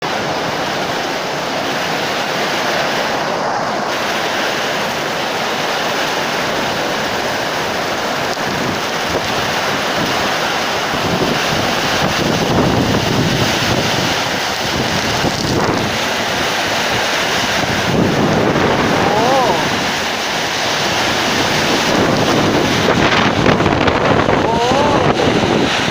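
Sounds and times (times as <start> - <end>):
heavy rain: 0.0 - 25.9
strong wind: 0.0 - 25.9
wind buffeting microphone: 0.0 - 25.9.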